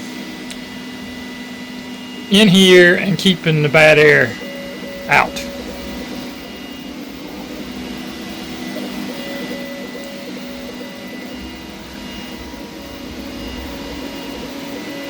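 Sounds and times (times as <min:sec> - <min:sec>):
fans humming: 0:00.0 - 0:15.0
stepper motor tones: 0:00.9 - 0:15.0.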